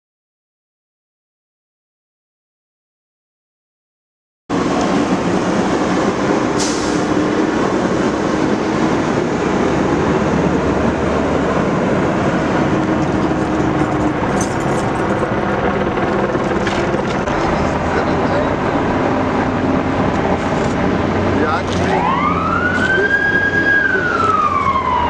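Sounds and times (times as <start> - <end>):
heavy engines rumbling: 4.5 - 25.0.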